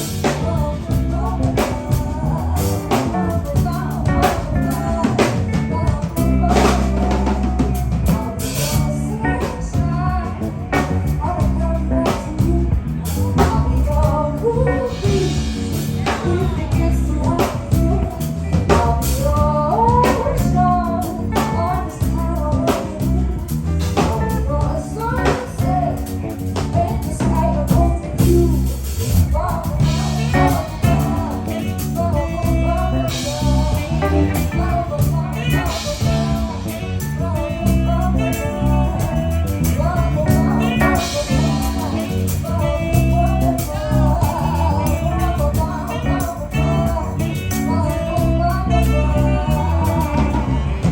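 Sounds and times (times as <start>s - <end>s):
drum kit beat: 0.0s - 50.9s
live band playing: 0.0s - 50.9s
person singing: 0.0s - 50.9s.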